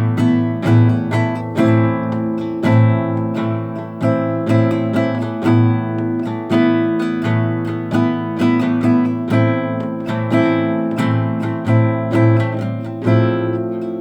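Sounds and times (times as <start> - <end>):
classical guitar playing: 0.0 - 14.0.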